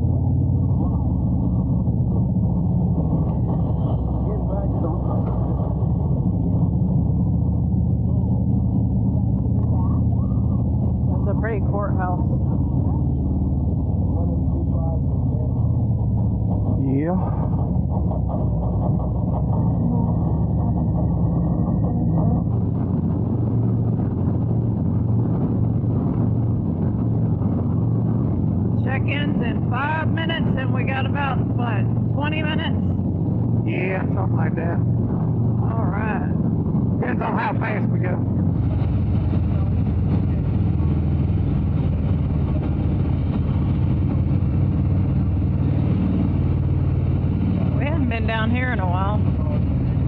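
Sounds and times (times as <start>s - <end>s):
motorcycle engine while riding: 0.0s - 50.0s
road and wind noise: 0.0s - 50.0s.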